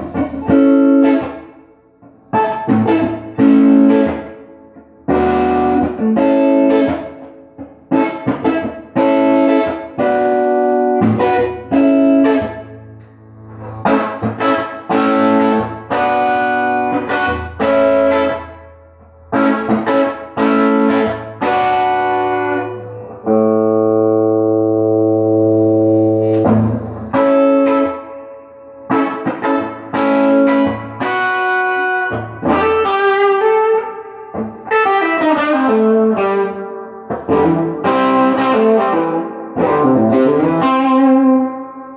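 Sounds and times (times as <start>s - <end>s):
electric guitar strumming chords: 0.0s - 41.9s.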